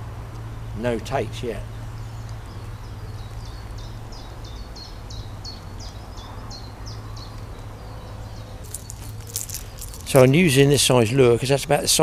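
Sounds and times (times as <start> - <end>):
low rumble of wind: 0.0 - 12.0
songbird singing: 0.0 - 12.0.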